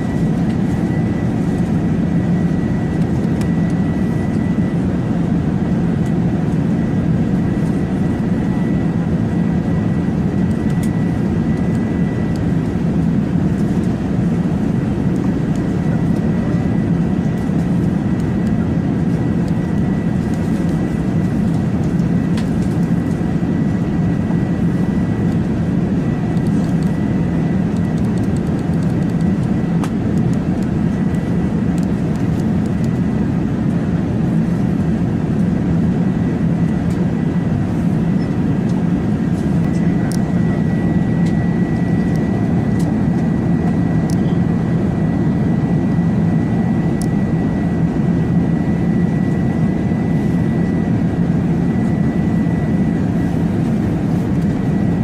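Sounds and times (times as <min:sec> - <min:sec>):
steady low drone: 0:00.0 - 0:55.0.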